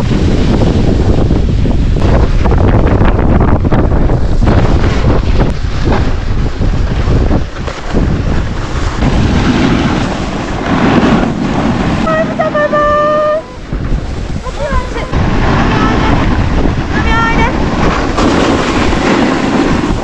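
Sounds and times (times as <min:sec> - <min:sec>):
snowboard sliding over snow: 0:00.0 - 0:20.0
wind buffeting microphone: 0:00.0 - 0:20.0.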